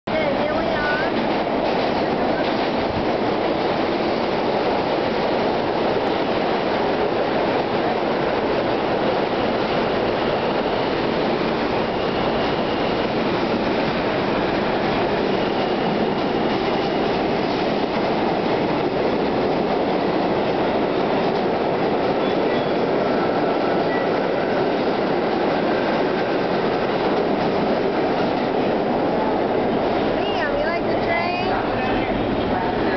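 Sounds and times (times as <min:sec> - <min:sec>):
subway train rumbling and rattling: 0:00.0 - 0:32.9.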